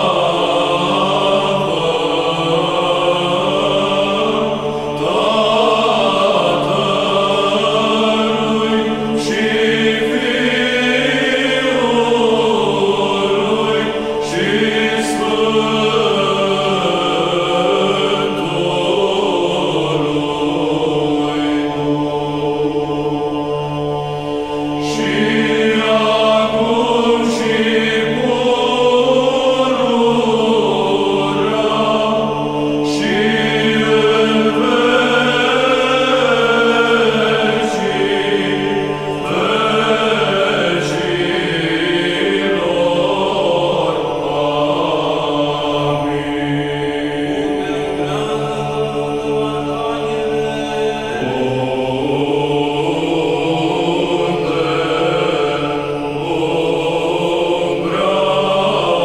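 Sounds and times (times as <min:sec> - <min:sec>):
choir chanting: 0:00.0 - 0:59.0
low held drone: 0:00.0 - 0:59.0.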